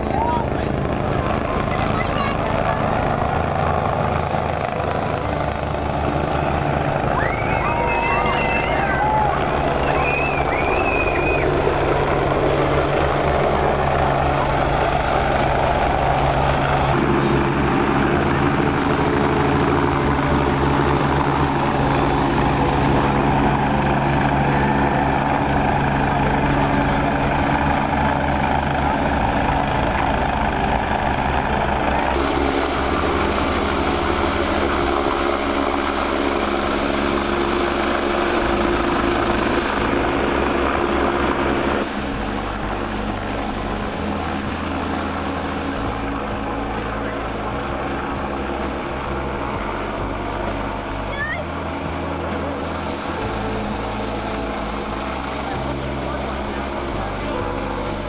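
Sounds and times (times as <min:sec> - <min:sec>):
helicopter rotor beat: 0:00.0 - 0:58.0.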